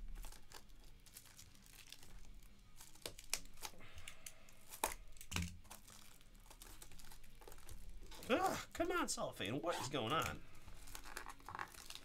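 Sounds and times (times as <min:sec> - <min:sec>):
cellophane wrap crinkling: 0:00.0 - 0:12.0.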